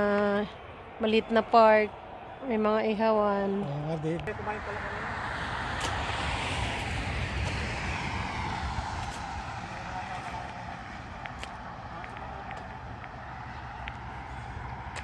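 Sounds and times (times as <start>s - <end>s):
passing vehicle rumble: 0.0s - 15.0s.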